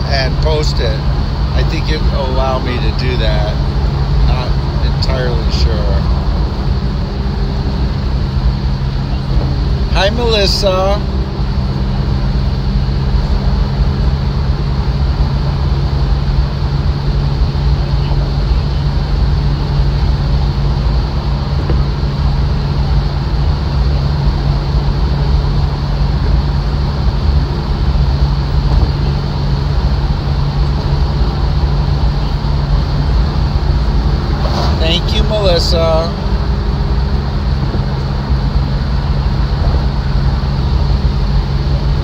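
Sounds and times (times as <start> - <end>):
car engine drone: 0.0 - 42.0.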